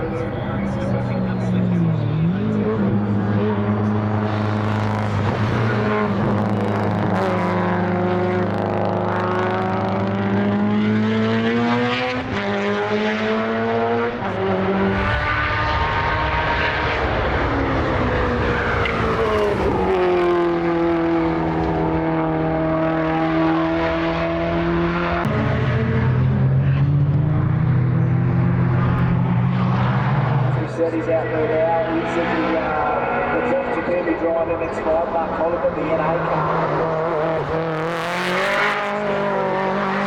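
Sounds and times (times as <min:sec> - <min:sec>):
race car engines at full throttle: 0:00.0 - 0:40.0.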